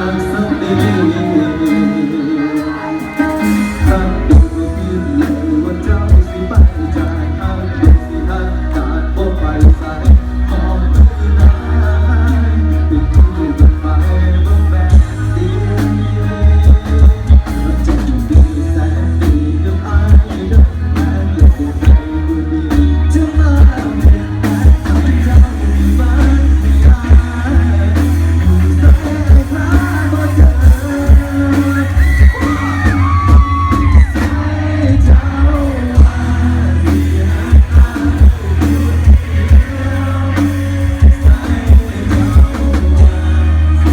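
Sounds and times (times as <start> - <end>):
band playing through sound system: 0.0 - 43.9
person singing: 0.0 - 43.9
drum beats: 0.7 - 43.9
booming bass: 3.5 - 43.9.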